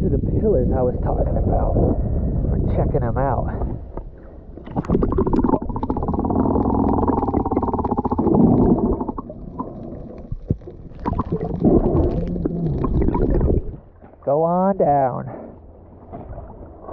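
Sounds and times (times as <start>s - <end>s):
water rushing over camera: 0.0s - 14.4s
underwater rumbling and bubbling: 0.0s - 16.9s.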